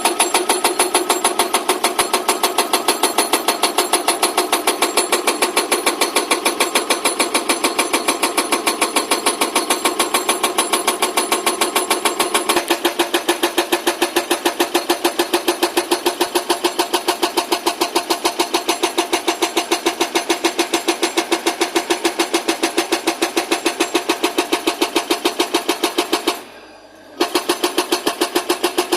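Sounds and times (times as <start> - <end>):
hydraulic rock breaker hammering: 0.0 - 28.9.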